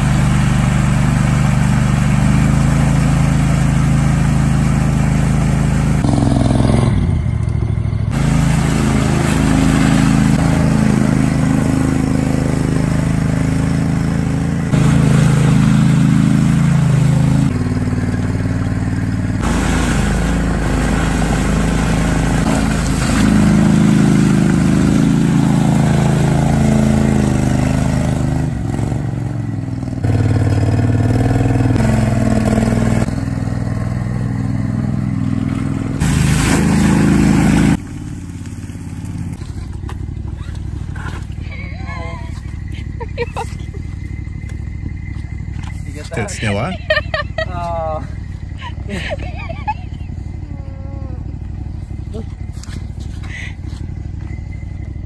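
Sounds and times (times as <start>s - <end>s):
small engine running under load: 0.0s - 55.0s.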